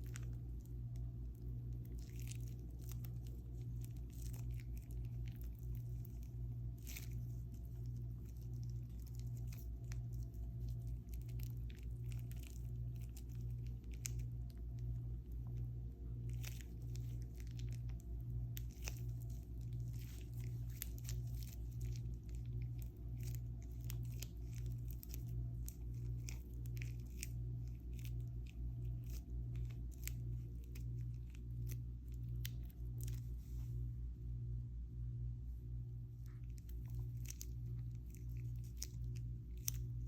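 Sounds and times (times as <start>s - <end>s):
crunchy slime crackling and popping: 0.0s - 33.6s, 36.1s - 40.0s.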